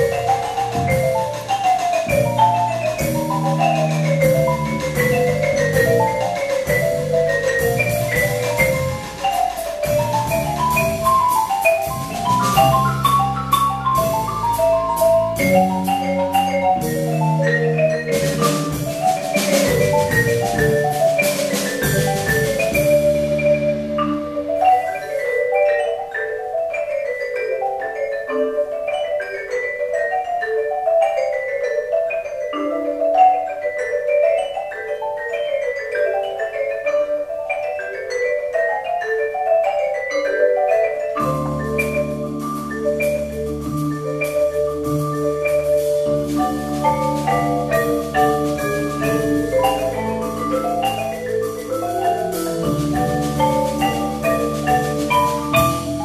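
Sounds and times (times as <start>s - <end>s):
marimbas and vibraphone playing: 0.0s - 56.0s.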